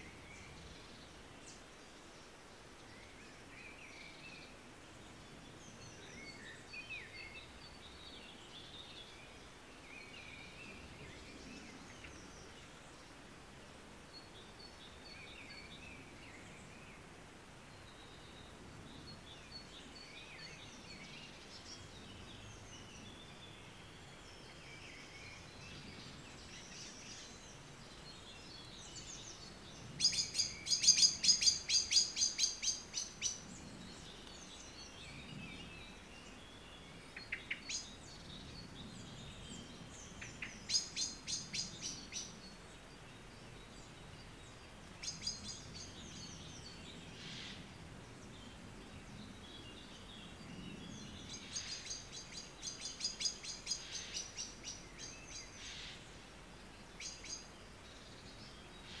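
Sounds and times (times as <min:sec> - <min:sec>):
low hiss: 0:00.0 - 0:59.0
songbirds calling: 0:00.0 - 0:59.0.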